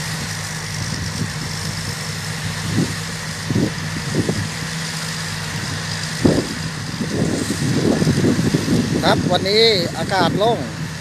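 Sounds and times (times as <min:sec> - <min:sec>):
diesel engine running: 0:00.0 - 0:11.0
high whine: 0:00.0 - 0:11.0.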